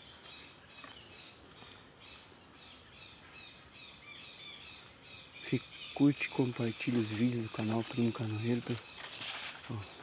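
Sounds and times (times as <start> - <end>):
insect drone: 0.0 - 10.0.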